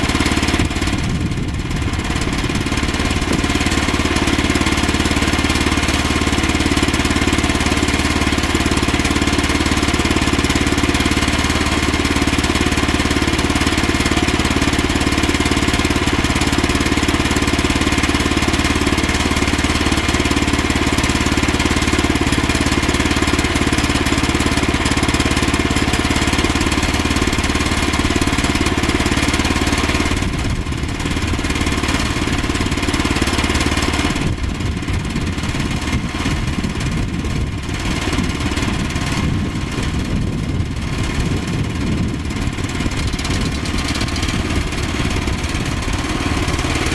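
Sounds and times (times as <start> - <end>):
small gasoline engine running: 0.0 - 46.9.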